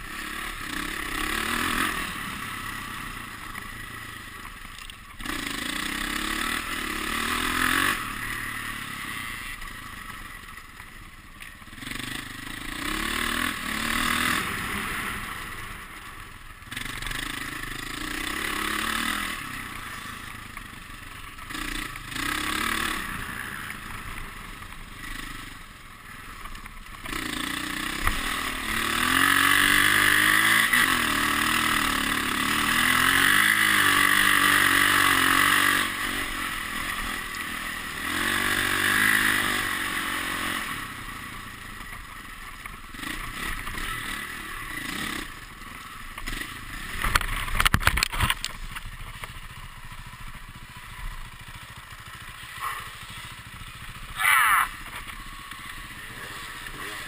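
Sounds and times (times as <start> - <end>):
dirt bike engine revving: 0.0 - 4.6, 5.2 - 10.6, 11.6 - 48.4, 49.7 - 57.0.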